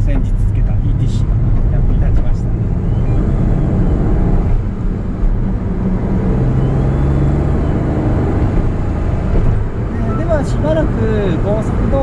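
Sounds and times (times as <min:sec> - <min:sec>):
car engine running: 0:00.0 - 0:12.0
tyre and road noise: 0:00.0 - 0:12.0.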